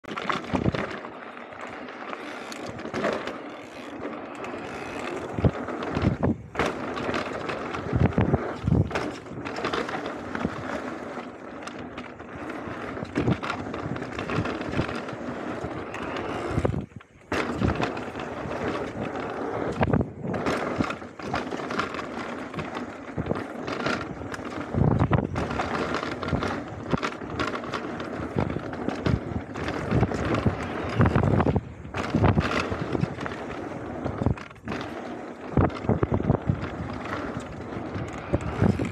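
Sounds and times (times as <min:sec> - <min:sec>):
bike knocking and rattling: 0:00.0 - 0:38.9
bike tyres rolling over dirt: 0:00.0 - 0:38.9.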